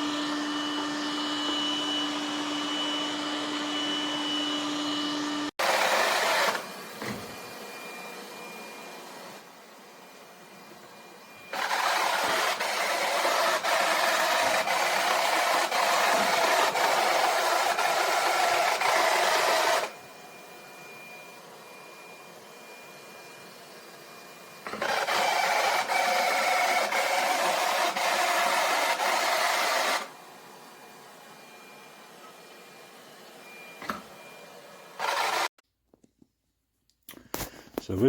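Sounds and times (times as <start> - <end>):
vacuum cleaner motor running: 0.0 - 35.6.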